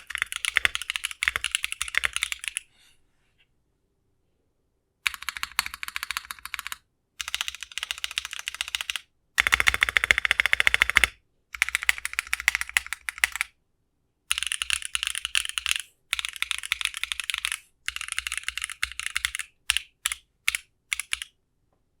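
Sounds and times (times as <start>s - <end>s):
mechanical keyboard typing: 0.0s - 2.7s, 5.0s - 13.5s, 14.3s - 21.4s.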